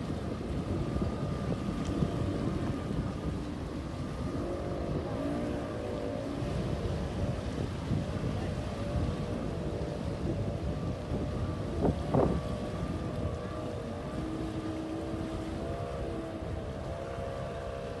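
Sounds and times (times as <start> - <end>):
boat engine humming: 0.0 - 18.0
wind noise on microphone: 0.0 - 18.0.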